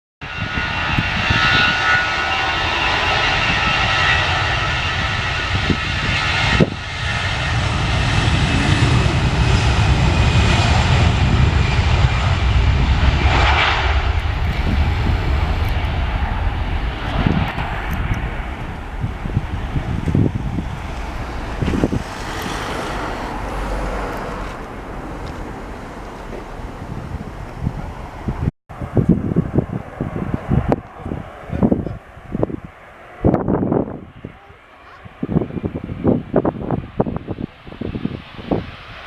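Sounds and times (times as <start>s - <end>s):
jet engines rumbling and whining: 0.2s - 39.0s.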